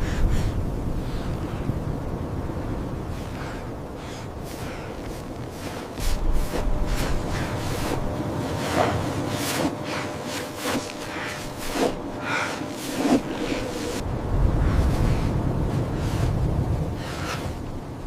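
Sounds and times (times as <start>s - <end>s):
blizzard wind gusting: 0.0s - 18.0s.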